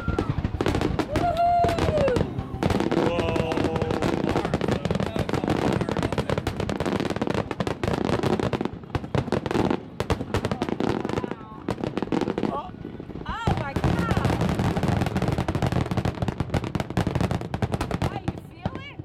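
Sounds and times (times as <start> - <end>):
firework crackles: 0.0 - 19.0.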